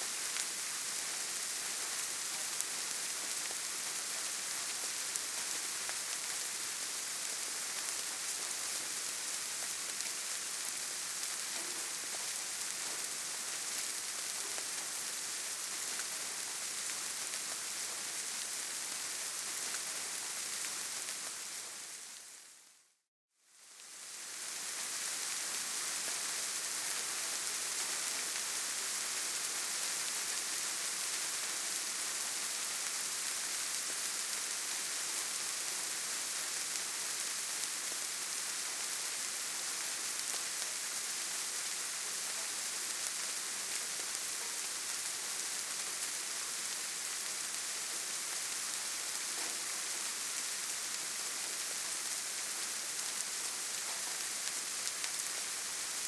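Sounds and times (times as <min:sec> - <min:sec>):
rain hissing in forest: 0:00.0 - 0:56.0.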